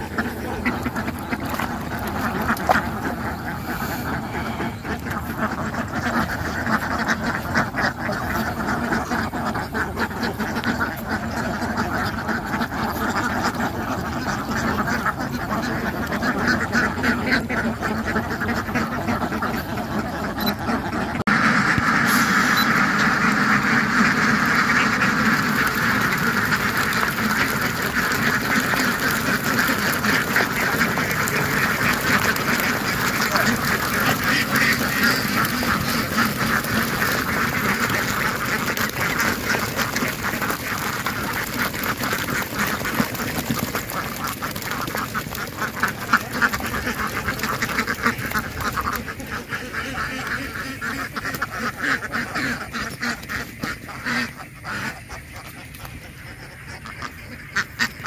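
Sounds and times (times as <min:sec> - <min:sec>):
ducks quacking: 0:00.0 - 0:58.0.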